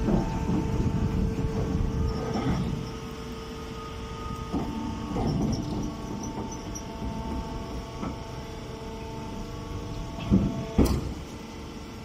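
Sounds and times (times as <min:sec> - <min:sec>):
electric motor and pump humming: 0:00.0 - 0:12.0.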